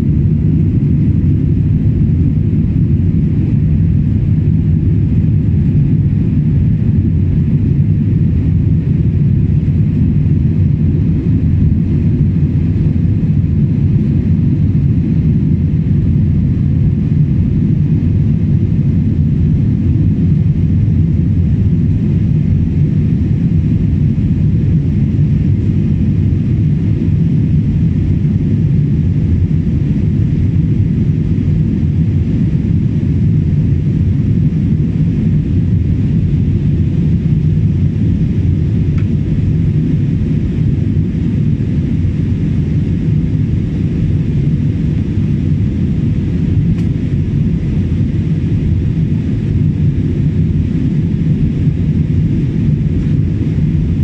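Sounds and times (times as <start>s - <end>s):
jet engine and airflow rumble: 0.0s - 54.0s.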